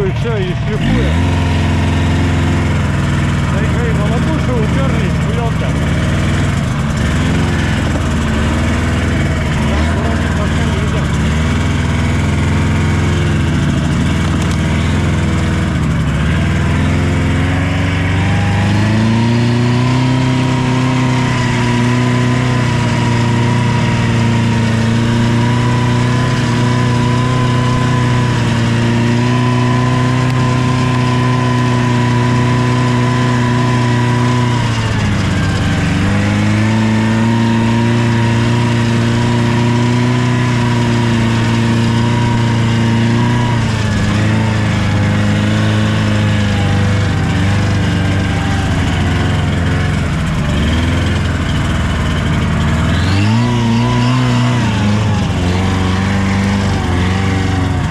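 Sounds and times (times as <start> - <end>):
vehicle engine running: 0.0 - 57.9.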